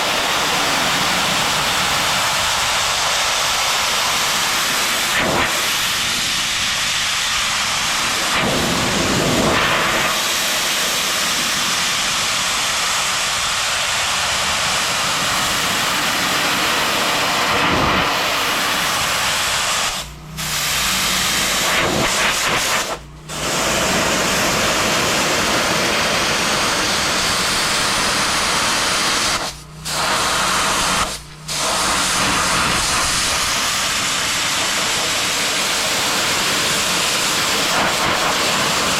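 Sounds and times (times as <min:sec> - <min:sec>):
pressure washer spraying stone: 0:00.0 - 0:38.9.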